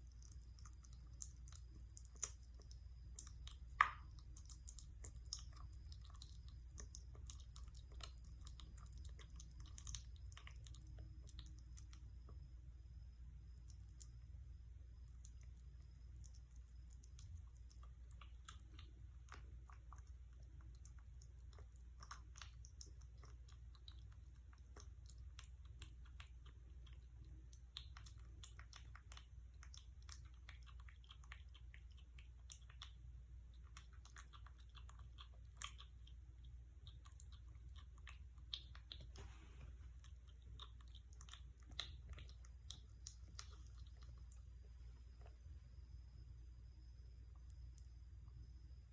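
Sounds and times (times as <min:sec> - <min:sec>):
kitten chewing food: 0:00.0 - 0:48.7.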